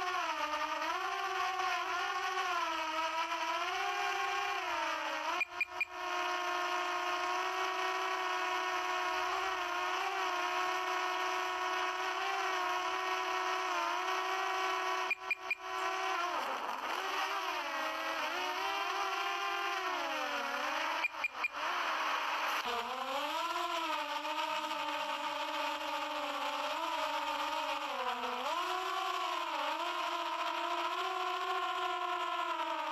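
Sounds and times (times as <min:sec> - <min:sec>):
drone propellers whining: 0:00.0 - 0:32.9.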